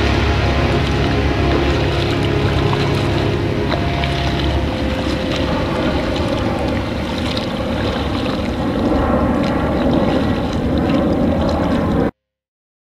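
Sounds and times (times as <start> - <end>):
water splashing against kayak hull: 0.0 - 12.1
wind buffeting microphone: 0.0 - 12.1.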